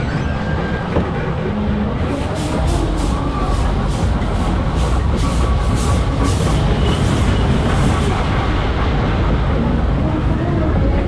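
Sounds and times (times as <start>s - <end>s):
faint fairground music: 0.0s - 11.0s
loud wind and rumble: 0.0s - 11.0s.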